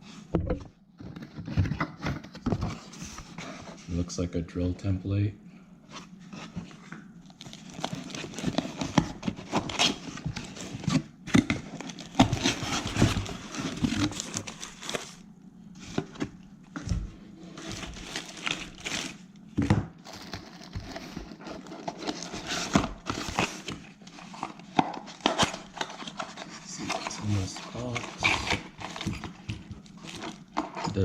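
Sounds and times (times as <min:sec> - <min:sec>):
packaging rustling and crinkling: 0:05.9 - 0:31.0.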